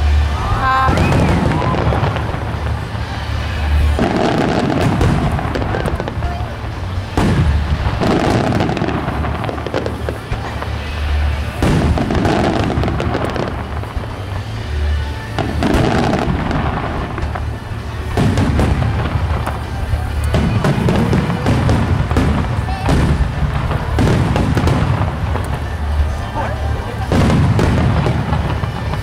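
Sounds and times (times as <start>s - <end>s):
background music: 0.0s - 29.0s
fireworks booming: 0.0s - 29.0s
fireworks crackling: 0.0s - 29.0s.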